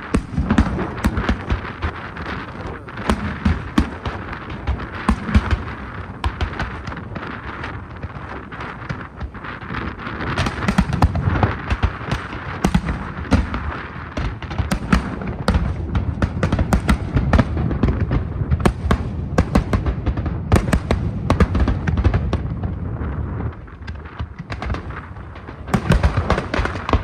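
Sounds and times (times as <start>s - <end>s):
fireworks cracking and booming: 0.0s - 27.0s.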